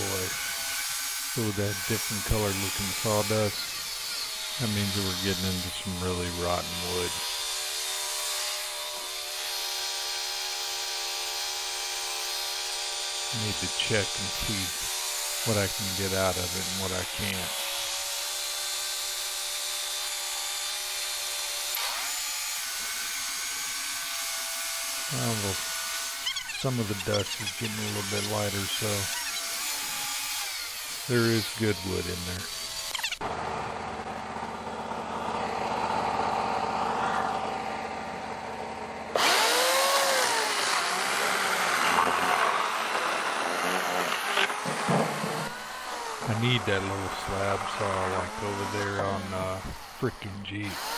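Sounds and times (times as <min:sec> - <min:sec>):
saw blade cutting log: 0:00.0 - 0:37.6, 0:39.1 - 0:50.9
motor hum: 0:00.0 - 0:50.9.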